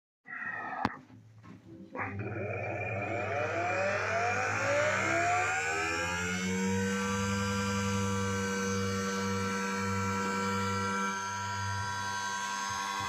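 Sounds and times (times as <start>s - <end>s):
electric motor whine: 2.2s - 13.0s.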